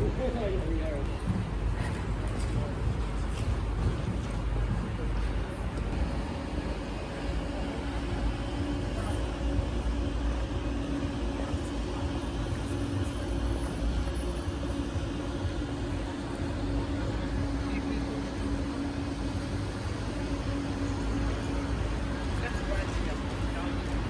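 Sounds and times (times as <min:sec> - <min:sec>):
traffic road noise: 0:00.0 - 0:24.0
low hum: 0:01.0 - 0:24.0.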